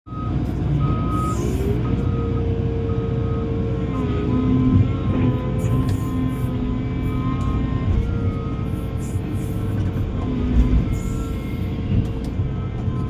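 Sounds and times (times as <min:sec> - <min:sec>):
diesel engine running: 0:00.1 - 0:13.0
reversing alarm beeping: 0:00.1 - 0:13.0.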